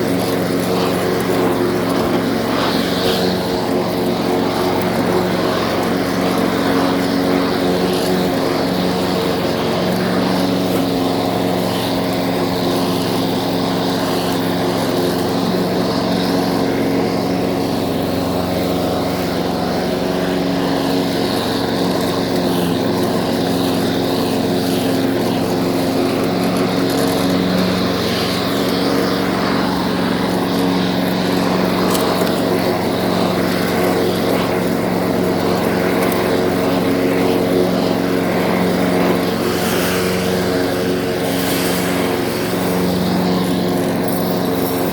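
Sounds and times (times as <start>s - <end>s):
lawn mower engine running: 0.0s - 44.9s.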